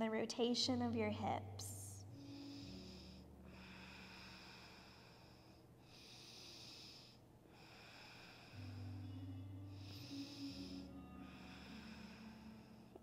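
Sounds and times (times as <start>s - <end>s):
faint low music drone: 0.0s - 13.0s
faint airy breathing: 1.6s - 13.0s.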